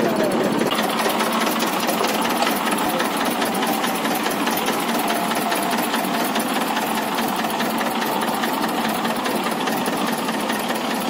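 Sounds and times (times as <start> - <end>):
tractor engine clattering: 0.0 - 11.0.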